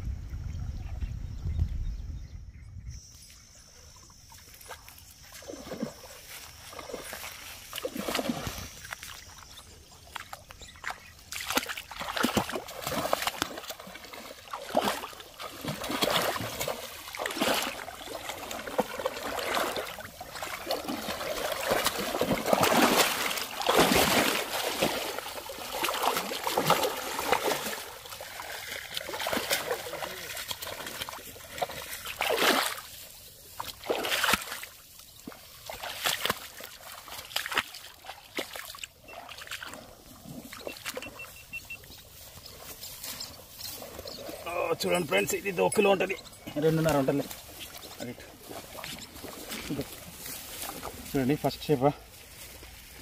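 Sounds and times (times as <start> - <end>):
fish flapping in muddy puddle: 4.4 - 51.2
fish splashing in water: 4.6 - 51.1.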